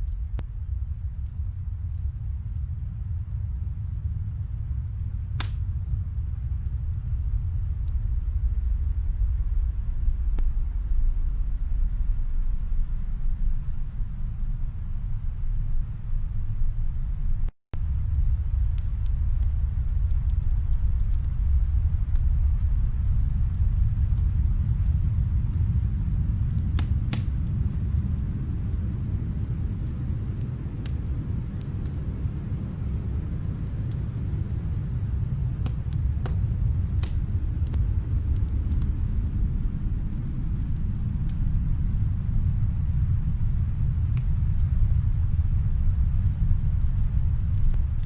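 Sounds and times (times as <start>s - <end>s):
fireplace crackling and popping: 0.0s - 8.9s, 17.8s - 48.0s
low fire rumble: 0.0s - 48.0s.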